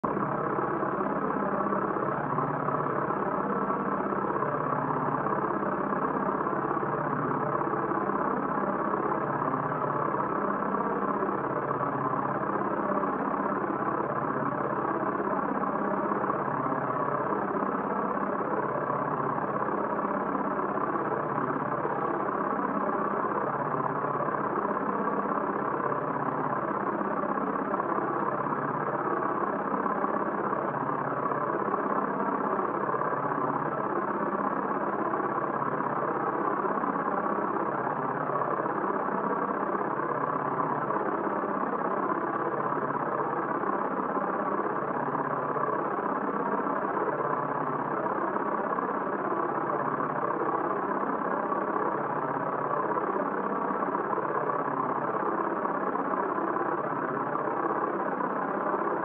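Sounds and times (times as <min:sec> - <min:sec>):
steady drone with low pulse: 0:00.0 - 0:59.0.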